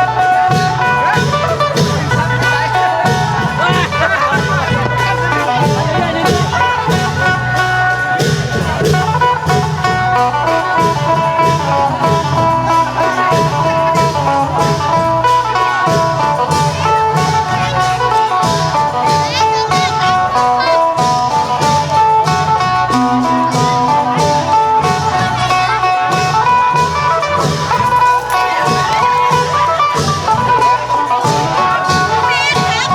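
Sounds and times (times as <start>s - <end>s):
cymbals: 0.0s - 32.9s
long drums beating: 0.0s - 32.9s
plucked lute melody: 0.0s - 32.9s.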